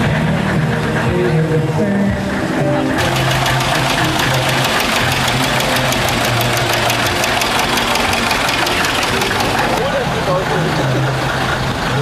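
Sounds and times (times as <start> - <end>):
diesel tractor engine clattering: 0.0 - 12.0.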